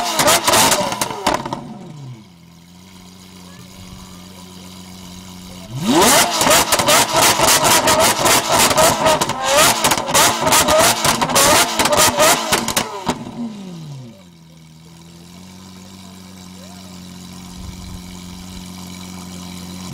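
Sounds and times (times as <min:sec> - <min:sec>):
car engine idling: 0:00.0 - 0:19.9
car engine revving: 0:00.0 - 0:19.9
exhaust cracks: 0:00.0 - 0:19.9.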